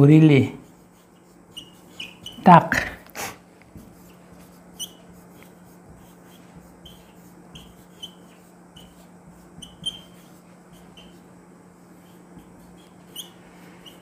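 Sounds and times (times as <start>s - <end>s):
faint steady hum: 0.0s - 14.0s
marker squeaking on whiteboard: 0.6s - 14.0s.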